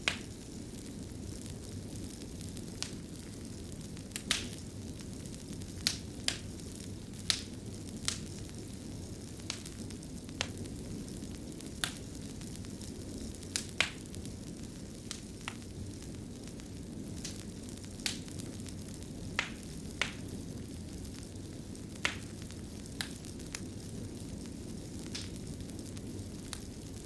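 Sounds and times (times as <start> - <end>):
fire pops and snaps: 0.0 - 27.0
wood fire crackling: 0.0 - 27.0.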